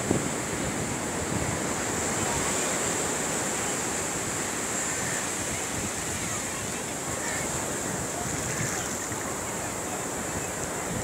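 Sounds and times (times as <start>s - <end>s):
sea surf washing onto beach: 0.0s - 11.0s
wind rumbling on microphone: 0.0s - 11.0s.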